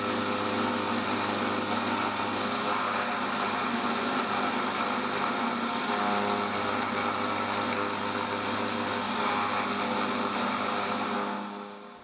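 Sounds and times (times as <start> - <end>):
milling machine cutting metal: 0.0 - 12.0.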